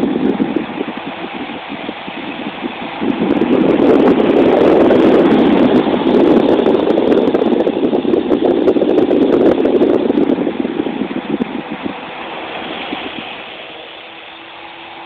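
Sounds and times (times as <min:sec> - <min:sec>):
toy helicopter motor buzzing: 0:00.0 - 0:15.0.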